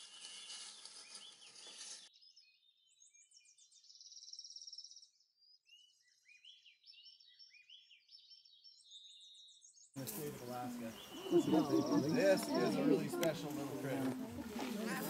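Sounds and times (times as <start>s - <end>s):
songbird trills and chirps: 0.1s - 12.6s.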